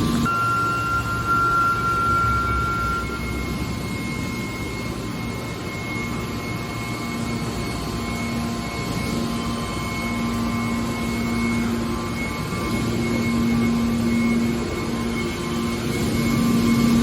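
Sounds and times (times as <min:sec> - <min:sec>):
low hum: 0:00.0 - 0:15.1
faint high whine: 0:00.0 - 0:17.0
machine drone: 0:00.0 - 0:17.0.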